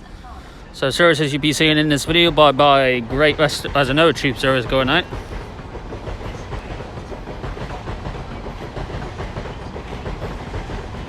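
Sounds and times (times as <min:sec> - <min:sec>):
train wheels on rails: 0:00.0 - 0:11.0
track clickety-clack: 0:00.8 - 0:11.0.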